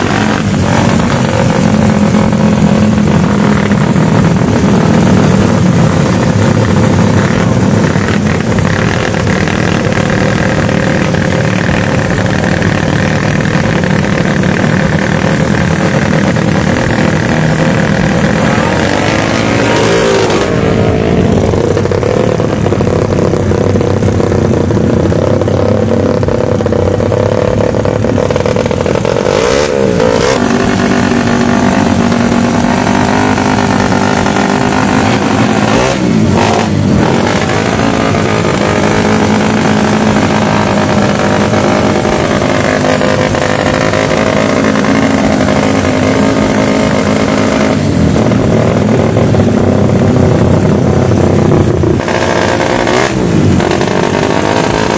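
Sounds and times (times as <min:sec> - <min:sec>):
motorcycle engine revving high: 0:00.0 - 0:54.9.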